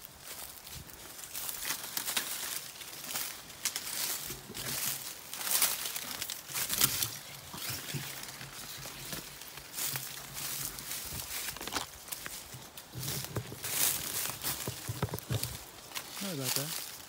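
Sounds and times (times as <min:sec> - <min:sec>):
footsteps crunching through dry leaves: 0:00.0 - 0:17.0.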